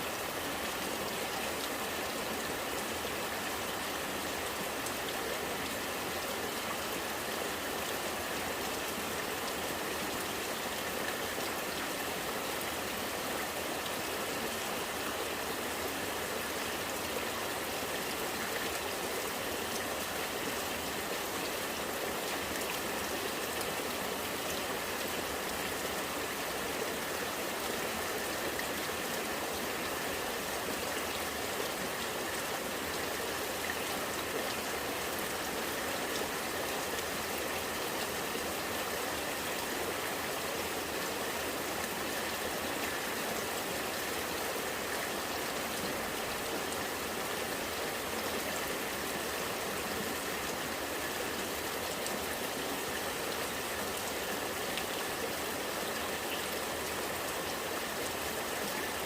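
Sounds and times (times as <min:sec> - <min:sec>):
rainwater trickling and gurgling: 0:00.0 - 0:59.0.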